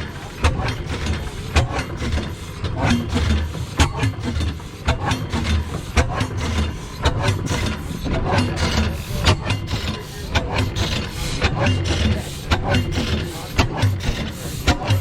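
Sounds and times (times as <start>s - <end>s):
engine chugging: 0.0s - 15.0s.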